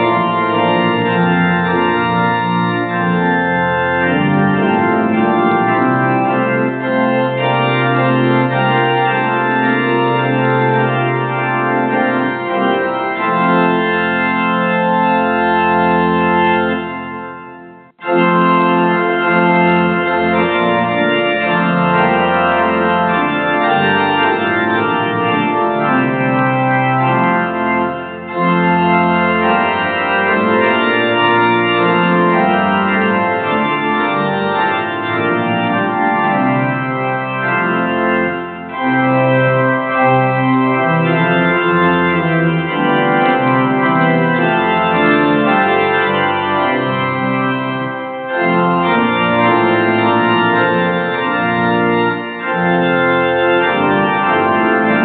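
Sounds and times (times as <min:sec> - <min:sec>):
organ playing held chords: 0:00.0 - 0:55.0.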